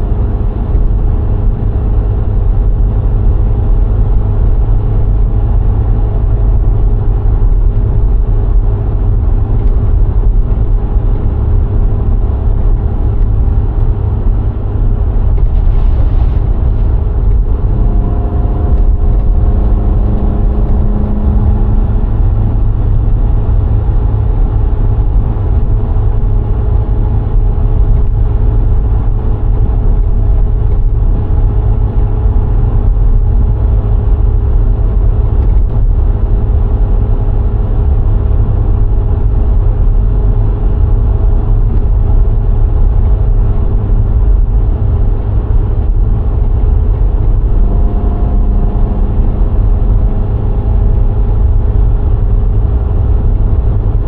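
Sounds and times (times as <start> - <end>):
car engine hum: 0.0 - 54.0
tyre and wind rumble: 0.0 - 54.0.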